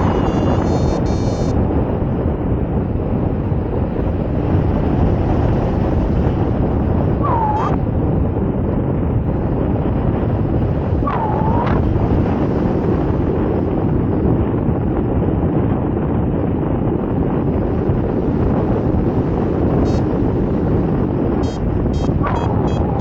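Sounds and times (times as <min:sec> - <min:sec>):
wind buffeting the microphone: 0:00.0 - 0:23.0.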